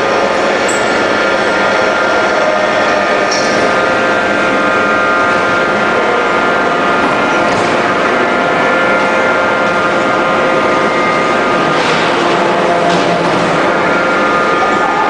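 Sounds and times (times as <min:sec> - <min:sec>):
heavy machinery drone: 0:00.0 - 0:15.0
steady whining tones: 0:00.0 - 0:15.0.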